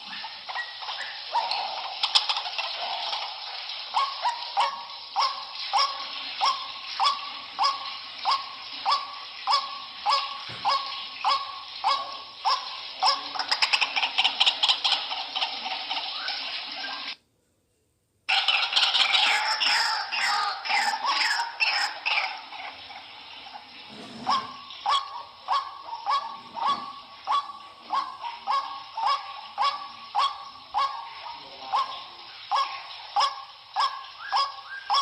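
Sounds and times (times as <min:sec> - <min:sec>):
waterhen calling: 0:00.0 - 0:17.2, 0:18.3 - 0:35.0.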